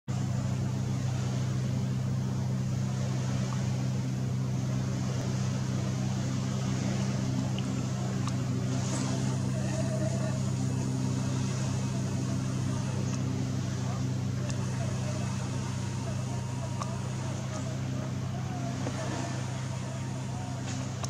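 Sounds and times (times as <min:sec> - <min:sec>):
motor humming: 0:00.1 - 0:21.0.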